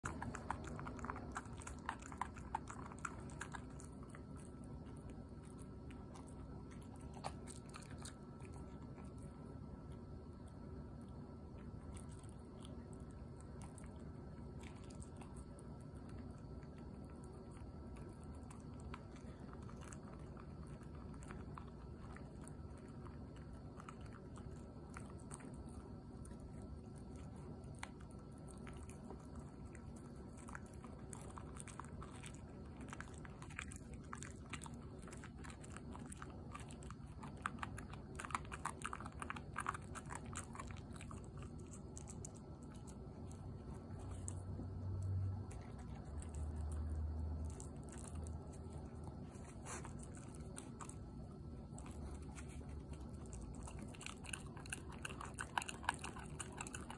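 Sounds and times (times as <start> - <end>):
dog chewing a bone: 0.0 - 56.9.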